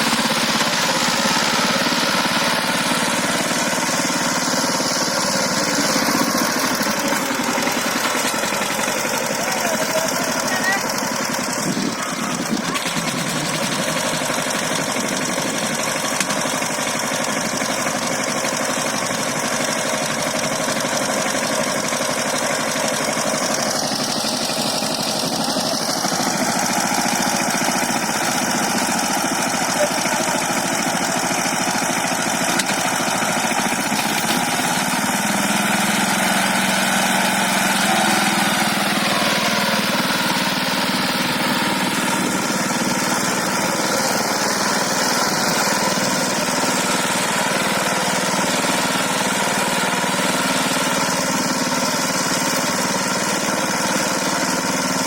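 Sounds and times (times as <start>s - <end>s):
power tiller engine running: 0.0s - 55.0s.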